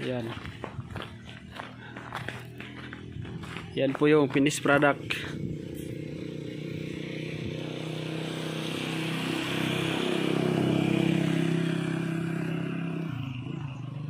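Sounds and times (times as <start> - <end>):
vehicle engine passing by: 0.0 - 14.0.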